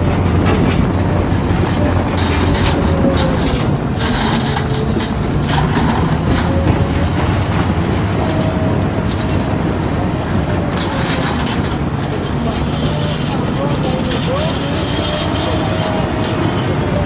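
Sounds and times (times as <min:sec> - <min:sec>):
diesel engine hum: 0:00.0 - 0:17.0
metallic squeals and clanks: 0:00.0 - 0:17.0.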